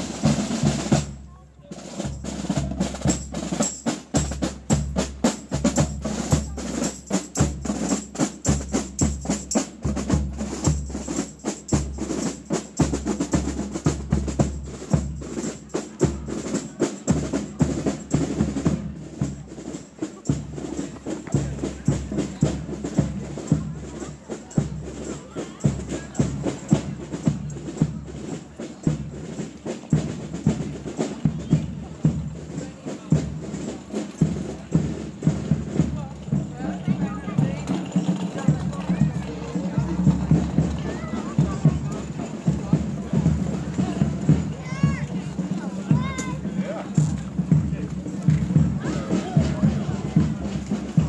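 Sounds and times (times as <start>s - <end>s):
snare and bass drums marching: 0.0s - 51.0s.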